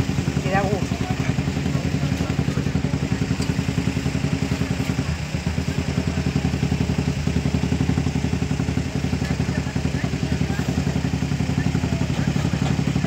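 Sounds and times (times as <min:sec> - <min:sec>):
small motorcycle engine idling: 0:00.0 - 0:13.0.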